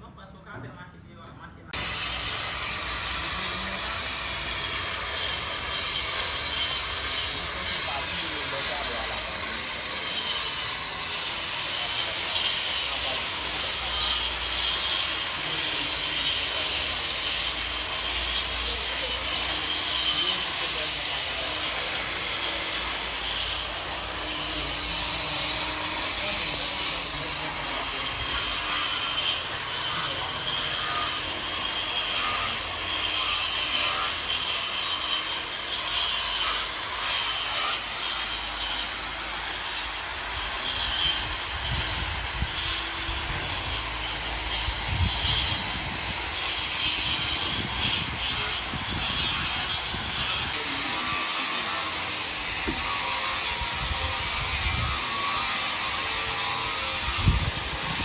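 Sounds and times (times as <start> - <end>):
power sander rasping on stone: 1.8 - 58.0.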